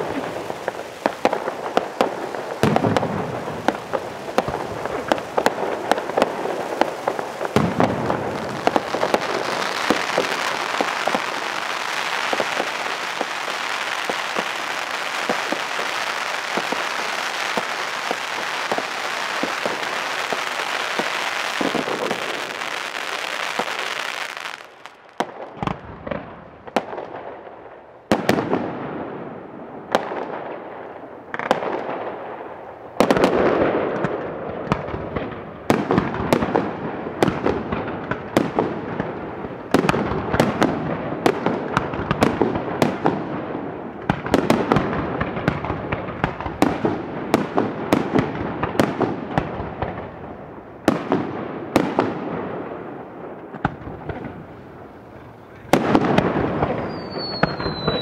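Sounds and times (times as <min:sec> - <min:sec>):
fireworks bursting with sharp bangs: 0:00.0 - 0:58.0
fireworks fountains crackling and hissing: 0:00.0 - 0:58.0.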